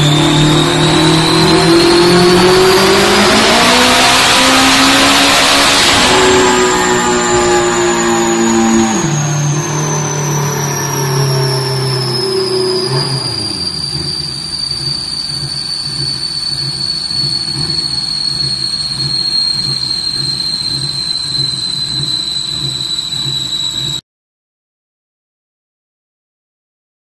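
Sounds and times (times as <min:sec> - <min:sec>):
car engine on dyno: 0:00.0 - 0:24.0
high whine of rollers spinning down: 0:00.0 - 0:24.0
low pulsing: 0:00.0 - 0:24.0.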